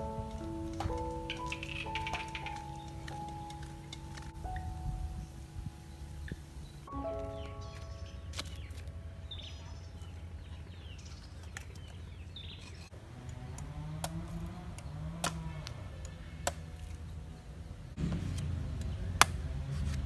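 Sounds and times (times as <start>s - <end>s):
small birds chirping: 0.0s - 18.0s
low outdoor rumble: 0.0s - 20.0s.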